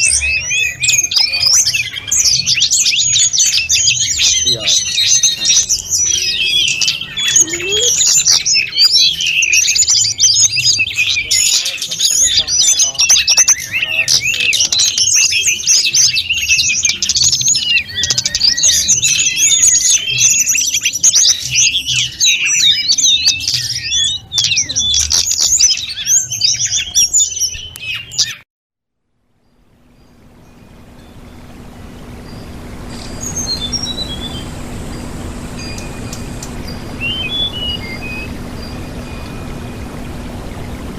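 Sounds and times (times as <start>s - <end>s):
songbird chirping and trilling: 0.0s - 28.4s, 29.4s - 40.9s.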